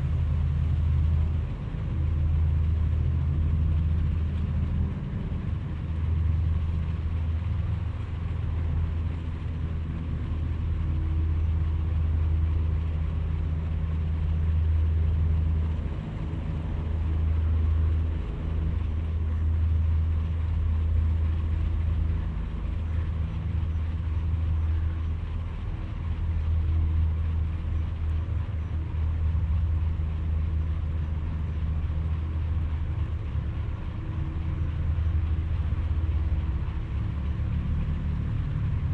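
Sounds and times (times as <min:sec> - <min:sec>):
engine running at low revs: 0:00.0 - 0:38.9.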